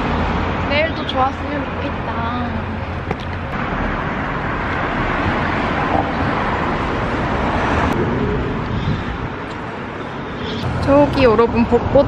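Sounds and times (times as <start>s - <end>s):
passing cars: 0.0s - 12.0s.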